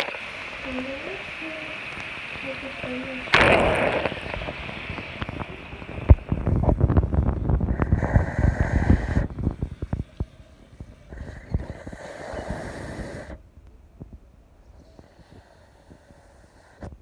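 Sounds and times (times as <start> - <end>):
hiss: 0.0 - 13.4, 14.7 - 17.0.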